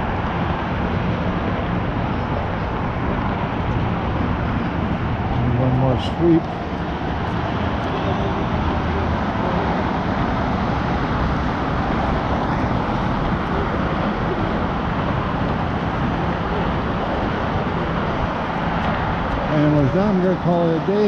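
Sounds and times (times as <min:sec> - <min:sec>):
distant highway traffic: 0:00.0 - 0:21.0.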